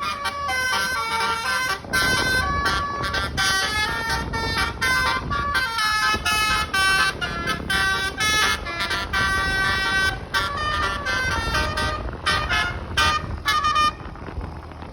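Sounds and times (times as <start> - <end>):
bus air horn melody: 0.0 - 14.9
low engine rumble: 0.0 - 14.9.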